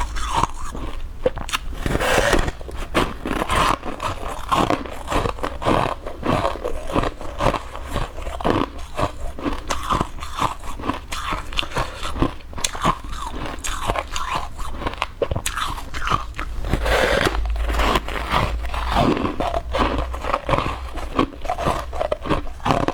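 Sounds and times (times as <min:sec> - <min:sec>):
chewing ice crunches: 0:00.0 - 0:22.9.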